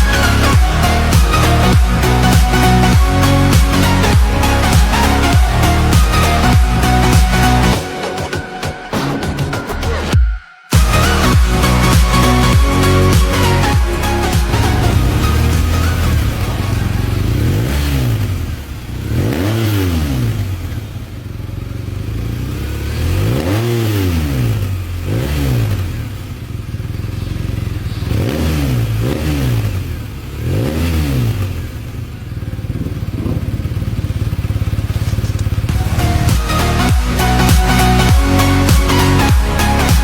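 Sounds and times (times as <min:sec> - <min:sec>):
motorcycle engine revving: 0:00.0 - 0:07.8, 0:10.8 - 0:40.0.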